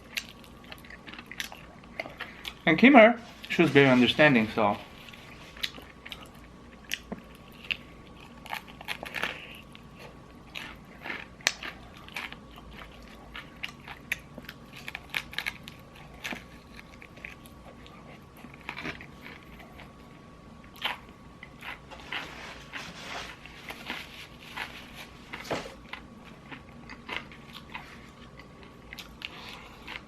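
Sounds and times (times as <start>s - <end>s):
chewing crispy fried chicken: 0.0s - 2.8s, 4.8s - 30.0s.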